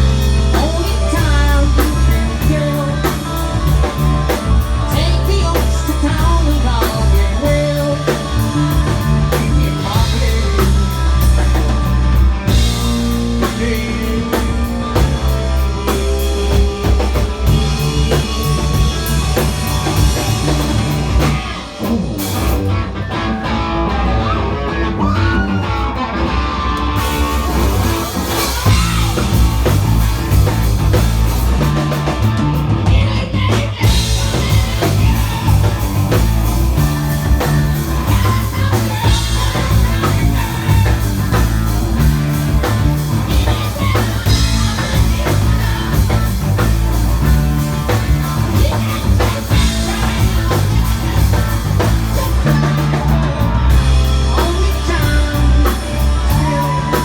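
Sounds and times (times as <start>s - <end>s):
hard rock band playing: 0.0s - 57.0s.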